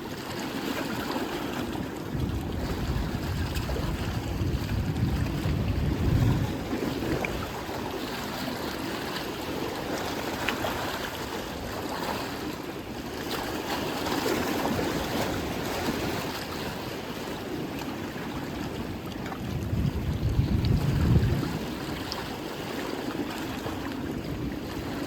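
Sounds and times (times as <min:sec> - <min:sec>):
ocean surf washing onto beach: 0:00.0 - 0:25.0
wind buffeting microphone: 0:00.1 - 0:25.0.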